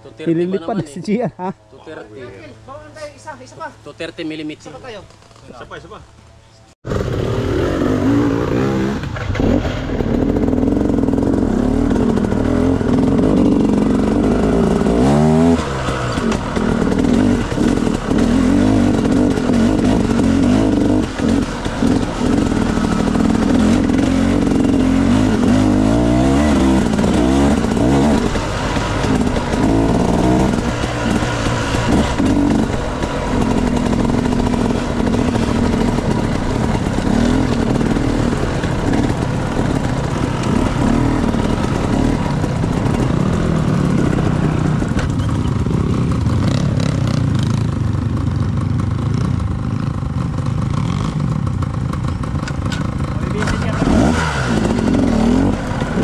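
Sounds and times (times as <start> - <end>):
dirt bike engine revving: 6.8 - 56.0.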